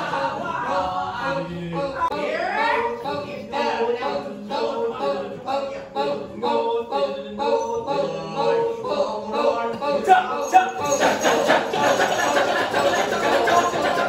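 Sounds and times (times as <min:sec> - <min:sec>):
male chorus chanting: 0:00.0 - 0:14.0.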